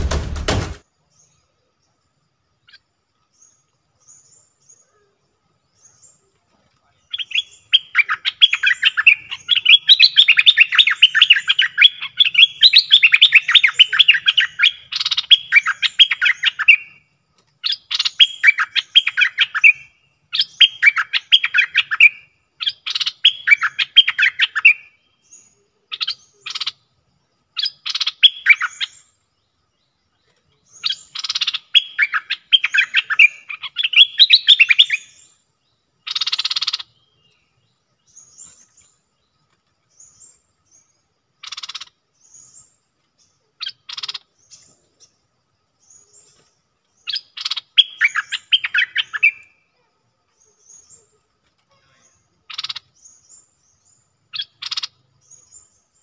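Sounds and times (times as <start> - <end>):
bulbul singing chattering song: 0.0 - 56.0.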